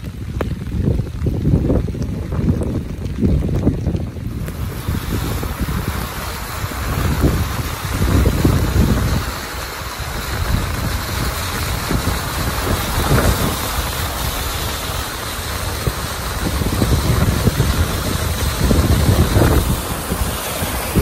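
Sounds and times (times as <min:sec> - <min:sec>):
water rushing from tyres: 0:00.0 - 0:21.0.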